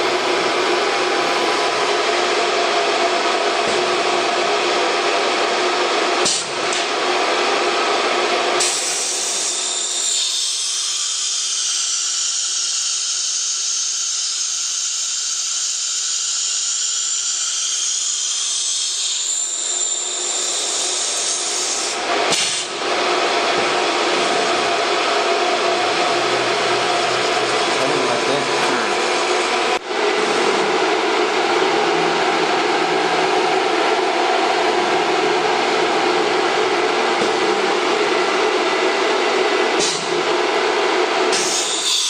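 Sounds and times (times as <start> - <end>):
cnc router whining: 0.0 - 42.0.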